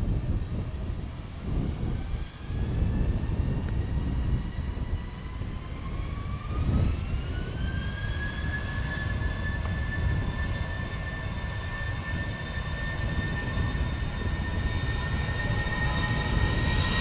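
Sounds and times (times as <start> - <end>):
jet engines spooling up: 0.0 - 17.0.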